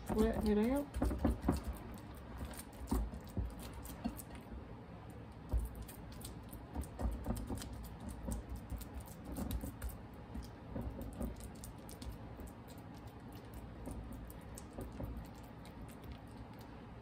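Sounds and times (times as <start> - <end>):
fingers patting meat mixture: 0.0 - 4.4, 5.3 - 17.0.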